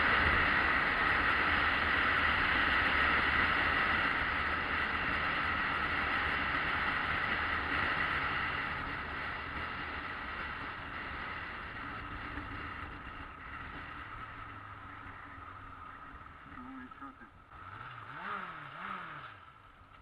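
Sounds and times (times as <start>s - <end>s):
rushing wind and road noise: 0.0s - 16.4s
motorcycle engine rumble: 0.0s - 20.0s.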